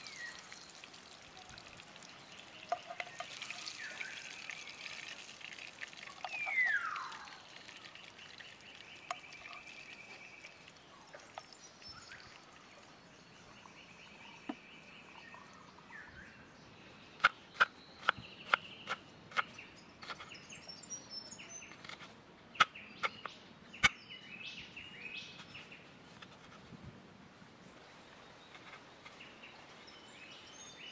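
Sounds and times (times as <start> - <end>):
forest birds calling: 0.0 - 26.5, 27.6 - 30.9.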